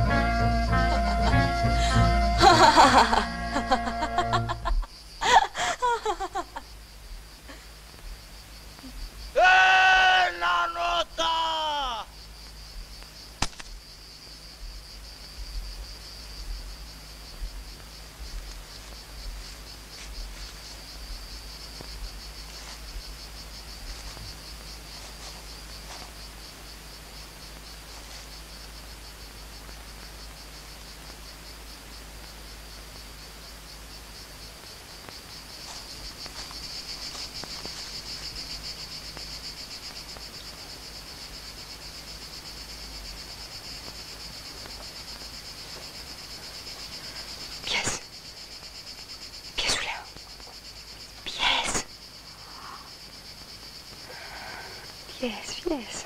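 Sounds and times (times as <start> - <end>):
insect chorus trilling: 0.0 - 56.0.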